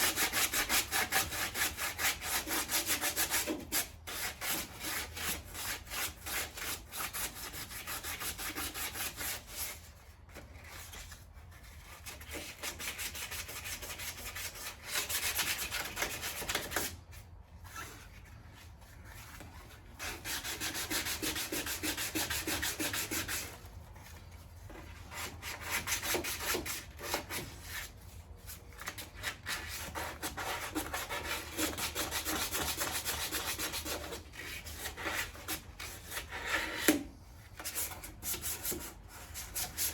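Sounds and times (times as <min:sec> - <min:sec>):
sandpaper rubbing on metal panel: 0:00.0 - 0:09.9, 0:10.6 - 0:18.2, 0:18.9 - 0:23.7, 0:24.9 - 0:37.0.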